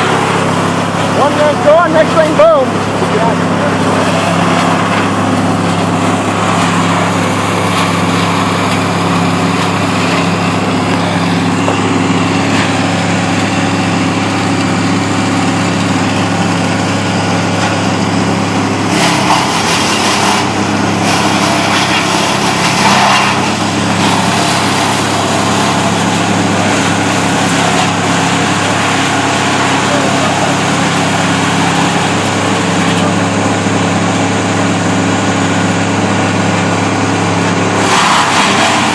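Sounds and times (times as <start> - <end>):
machine cutting wood: 0.0 - 38.9
power equipment engine drone: 0.0 - 38.9.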